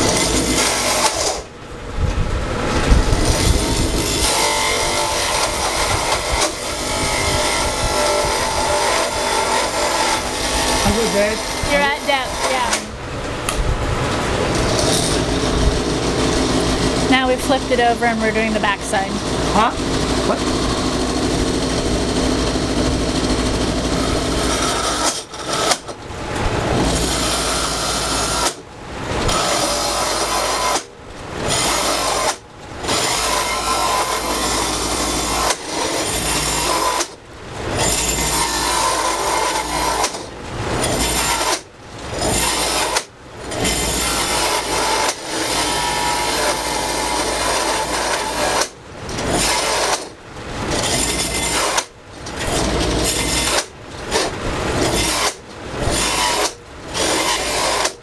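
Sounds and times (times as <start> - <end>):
power tool cutting wood: 0.0 - 1.5, 2.9 - 13.0, 14.2 - 26.0, 26.7 - 28.6, 29.2 - 58.0.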